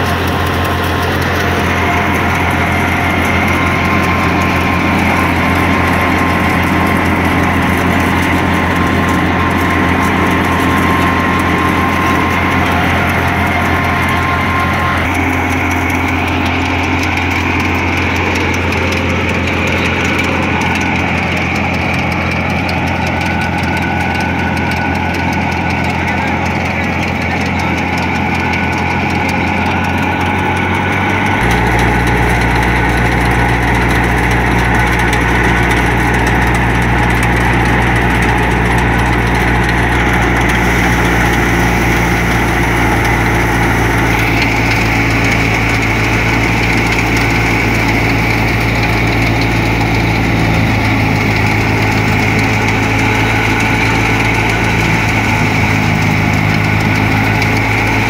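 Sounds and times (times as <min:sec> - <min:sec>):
thresher drum spinning: 0:00.0 - 0:58.0
tractor diesel engine drone: 0:00.0 - 0:58.0.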